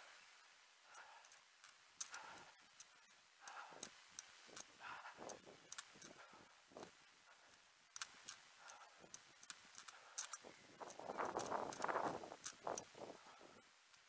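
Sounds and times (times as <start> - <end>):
runner breathing hard: 0.8 - 13.7
light ticks and clicks: 0.9 - 14.0.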